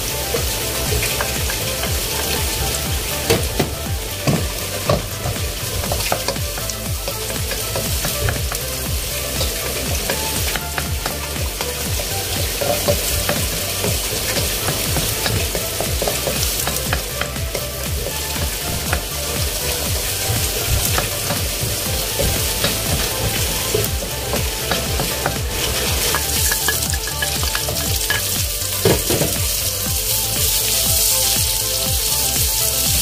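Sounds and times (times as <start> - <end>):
garlic sizzling in hot oil: 0.0 - 33.0.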